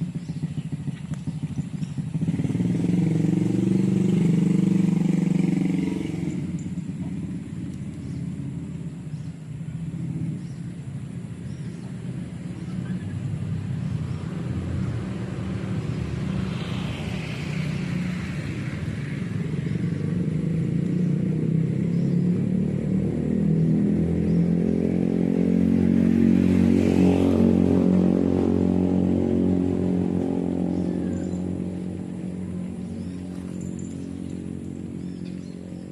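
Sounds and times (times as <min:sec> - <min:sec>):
vehicle engine running: 0:00.0 - 0:35.9.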